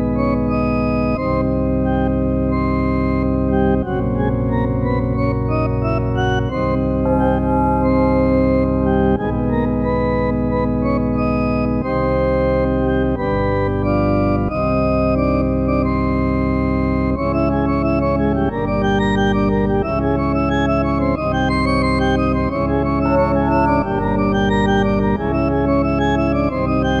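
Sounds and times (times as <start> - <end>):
held keyboard chords: 0.0 - 27.0.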